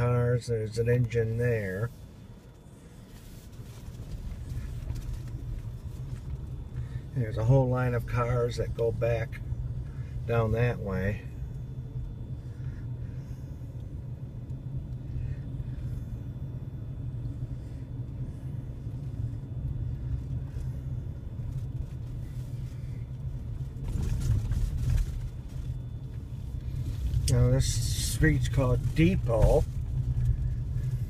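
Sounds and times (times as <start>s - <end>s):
car road noise rumble: 0.0s - 31.0s.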